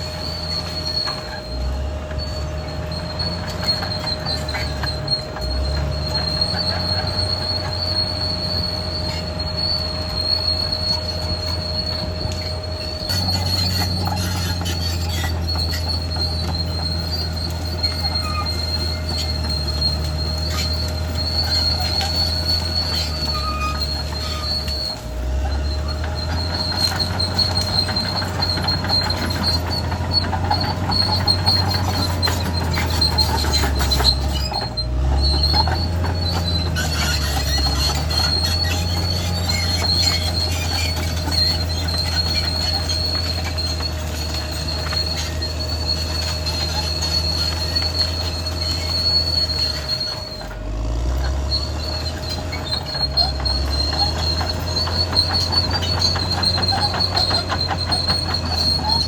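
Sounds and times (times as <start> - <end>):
diesel engine rumble: 0.0 - 59.0
steel tracks squealing and clattering: 0.0 - 59.0.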